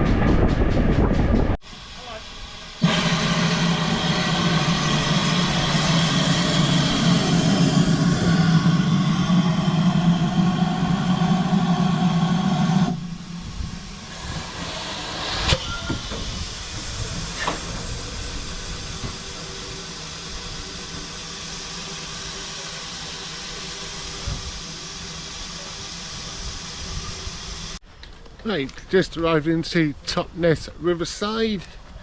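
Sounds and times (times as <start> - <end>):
steam train rumbling: 0.0 - 27.8
steady steam hiss: 1.6 - 27.8.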